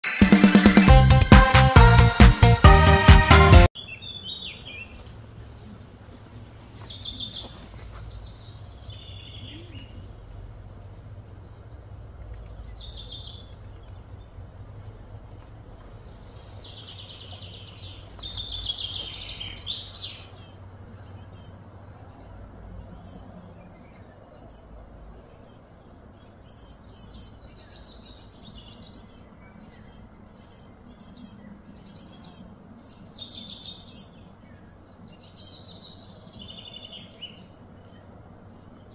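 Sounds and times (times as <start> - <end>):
birds chirping and singing: 2.9 - 38.9
steady low hum: 7.6 - 38.9.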